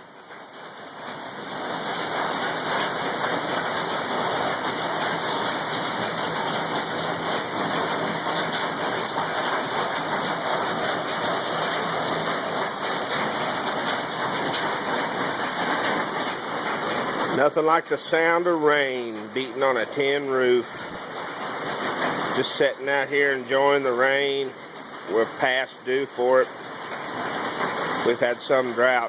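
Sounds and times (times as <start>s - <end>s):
heavy rain on a tin roof: 0.0s - 29.0s.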